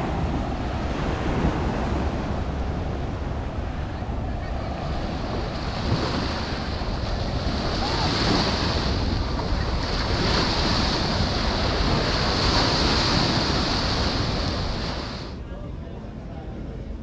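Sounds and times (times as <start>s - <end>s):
waves washing up a beach: 0.0s - 15.4s
wind rumble on microphone: 0.0s - 17.0s.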